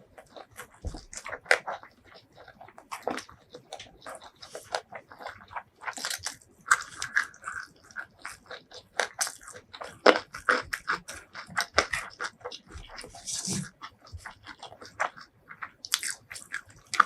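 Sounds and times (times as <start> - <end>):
crunching and chewing fried food: 0.0 - 17.0.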